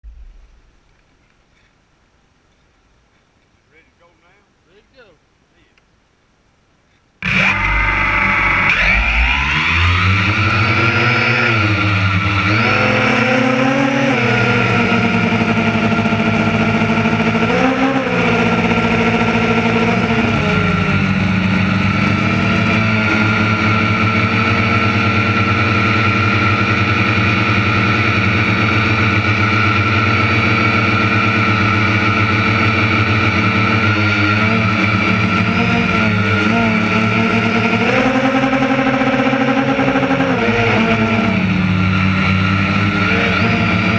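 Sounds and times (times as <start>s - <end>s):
harvester engine revving: 7.2s - 43.9s.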